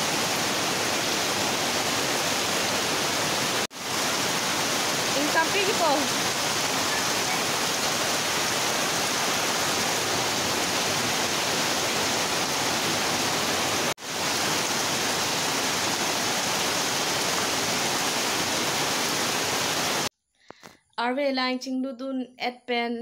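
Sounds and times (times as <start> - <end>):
heavy rain hiss: 0.0 - 20.1
water pouring off roof: 0.0 - 20.1.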